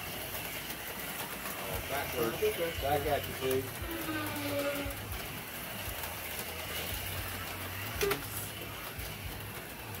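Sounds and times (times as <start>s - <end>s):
slot car motors whirring: 0.0s - 10.0s.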